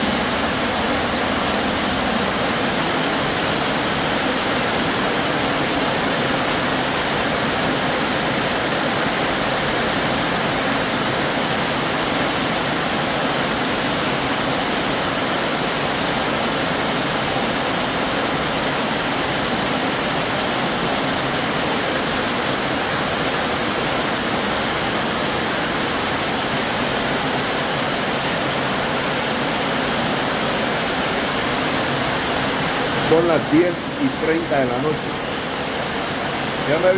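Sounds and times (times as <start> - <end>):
heavy rain on a metal roof: 0.0 - 36.9.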